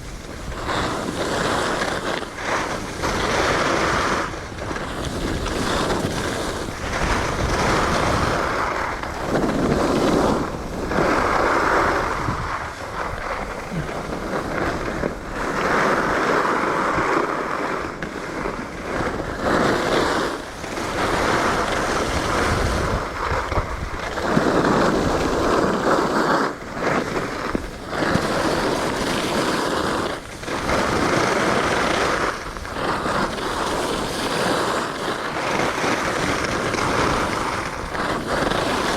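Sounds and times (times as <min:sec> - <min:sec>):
skis scraping across snow: 0:00.0 - 0:38.9
wind rushing over microphone: 0:00.0 - 0:38.9.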